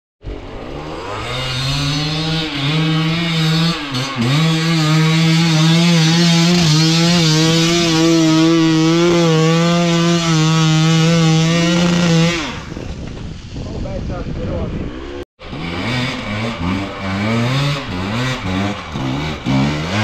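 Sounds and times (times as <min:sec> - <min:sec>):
dirt bike engine revving high: 0:00.3 - 0:12.7, 0:14.8 - 0:20.0.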